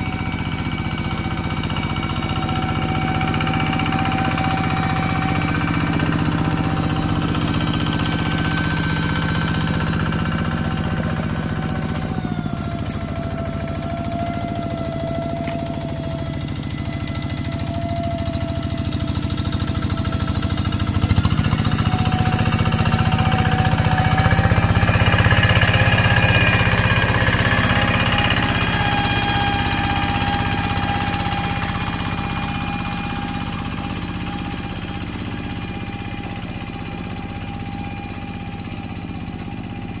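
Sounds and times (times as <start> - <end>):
tractor engine at full throttle: 0.0 - 40.0.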